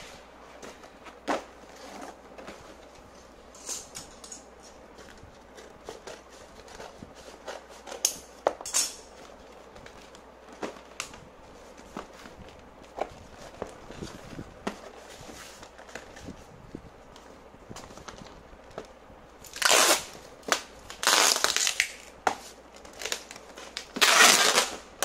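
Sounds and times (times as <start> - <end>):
cardboard rustling and scraping: 0.0 - 3.6, 4.5 - 8.5, 9.1 - 21.7.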